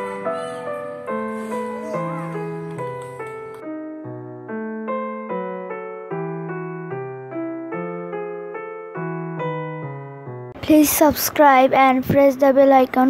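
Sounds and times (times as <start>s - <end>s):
electric piano melody: 0.0s - 10.6s.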